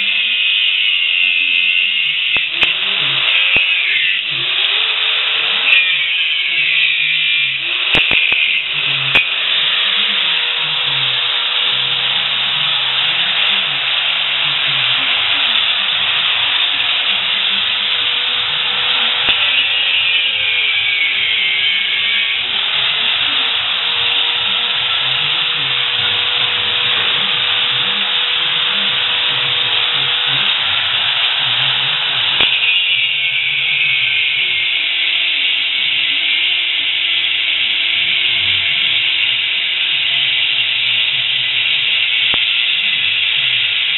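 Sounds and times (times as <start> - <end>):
angle grinder cutting steel: 0.0 - 43.9.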